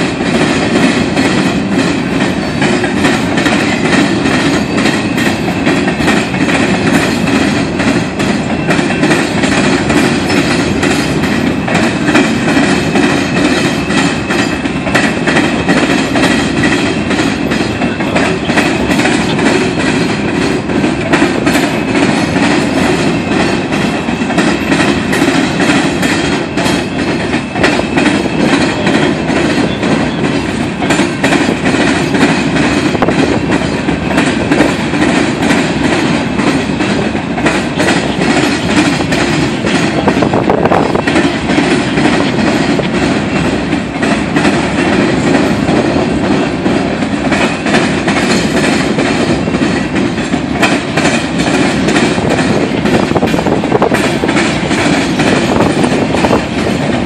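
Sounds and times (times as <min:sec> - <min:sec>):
freight train rumbling on rails: 0:00.0 - 0:57.0
wheels clicking over rail joints: 0:00.0 - 0:57.0.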